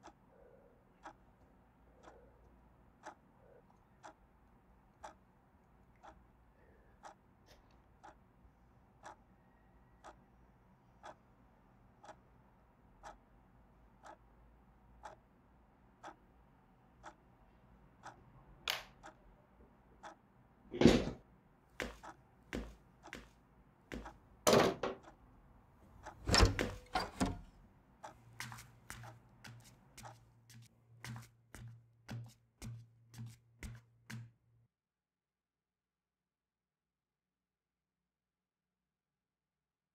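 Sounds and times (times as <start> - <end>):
clock ticking: 0.0 - 20.4, 21.8 - 34.4.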